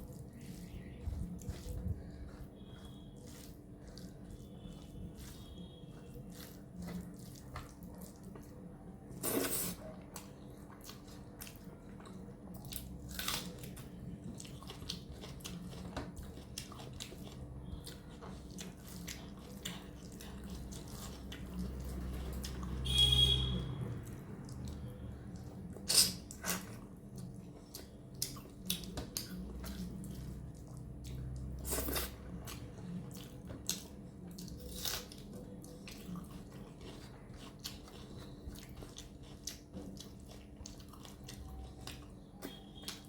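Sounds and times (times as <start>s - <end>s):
wet chewing and mouth clicks: 0.0s - 43.0s.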